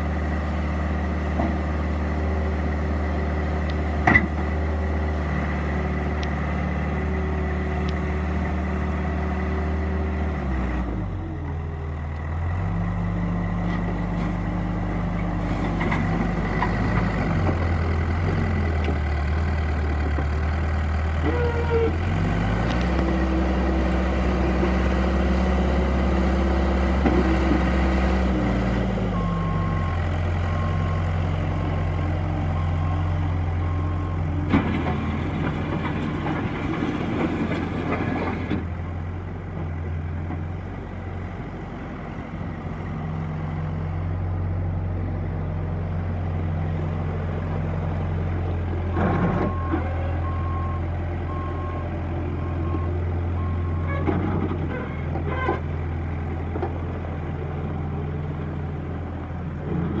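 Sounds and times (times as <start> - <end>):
diesel engine running: 0.0 - 60.0.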